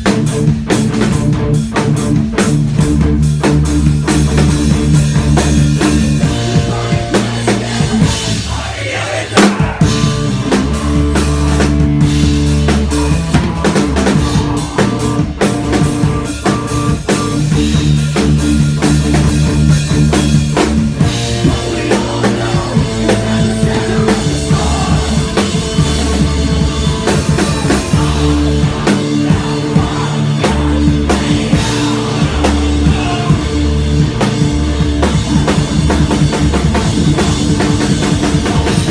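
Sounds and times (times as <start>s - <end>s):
bass guitar: 0.0s - 38.9s
distorted guitar: 0.0s - 38.9s
drum kit pounding: 0.0s - 38.9s.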